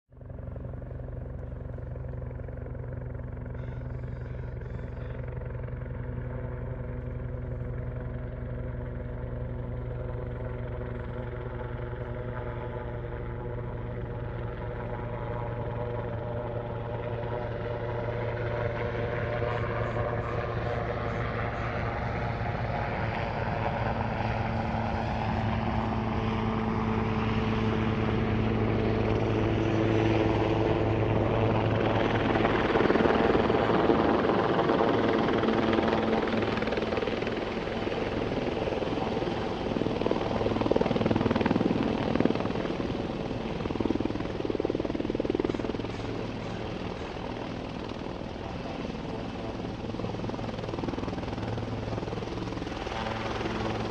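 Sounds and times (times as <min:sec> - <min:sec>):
helicopter rotor beat: 0:00.1 - 0:53.9
helicopter turbine whine: 0:00.1 - 0:53.9.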